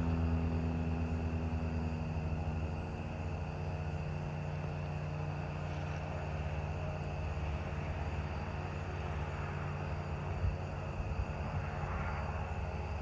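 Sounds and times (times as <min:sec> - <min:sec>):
distant engine drone: 0:00.0 - 0:13.0.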